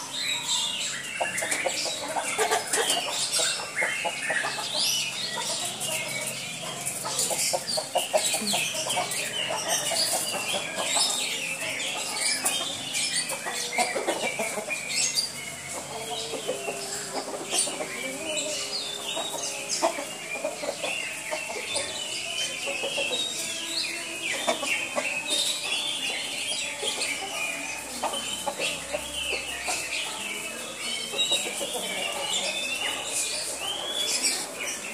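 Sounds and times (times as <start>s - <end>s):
chickens clucking: 0.0s - 34.9s
constant high chirping: 0.0s - 34.9s.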